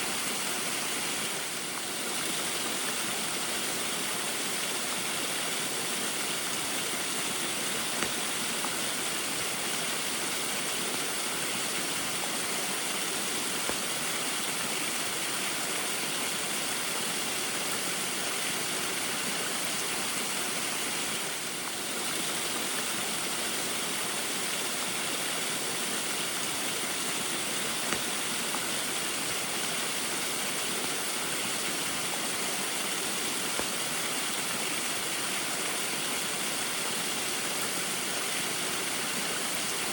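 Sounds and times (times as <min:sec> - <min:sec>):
rain: 0:00.0 - 0:39.9
small waterfall splashing: 0:00.0 - 0:39.9
faint drip-like ticks: 0:00.4 - 0:39.9.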